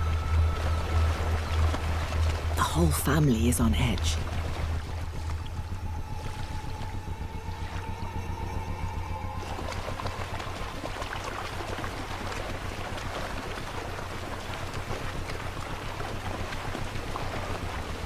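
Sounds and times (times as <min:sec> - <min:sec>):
steady low drone: 0:00.0 - 0:18.0
water splashing and sloshing: 0:00.0 - 0:18.0.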